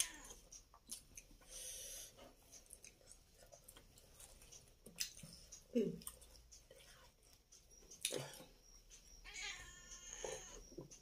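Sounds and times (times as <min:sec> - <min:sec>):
quiet chewing: 0:00.0 - 0:09.2.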